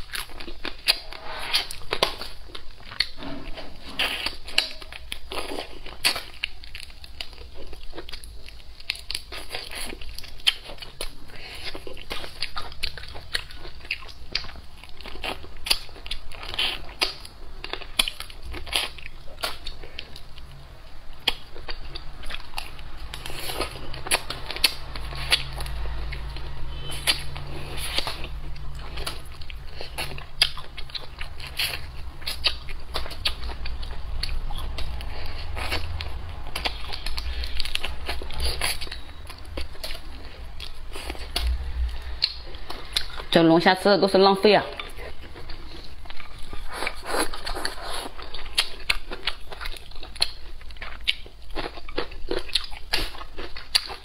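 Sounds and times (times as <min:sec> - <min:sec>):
chewing and biting food: 0:00.0 - 0:43.7, 0:44.6 - 0:54.0.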